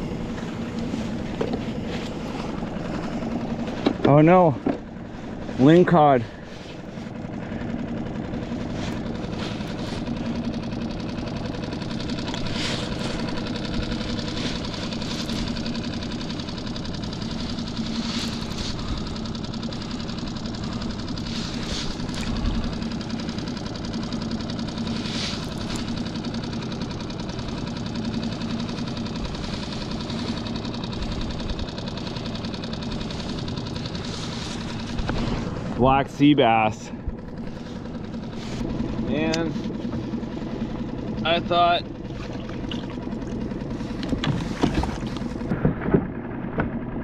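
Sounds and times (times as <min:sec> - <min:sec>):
outboard motor idling: 0:00.0 - 0:47.0.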